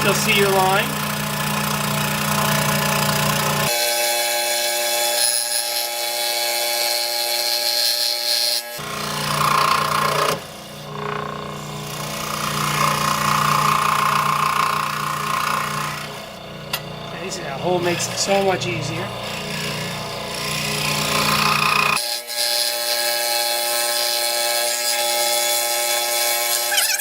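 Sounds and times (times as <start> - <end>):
scroll saw cutting wood: 0.0 - 27.0.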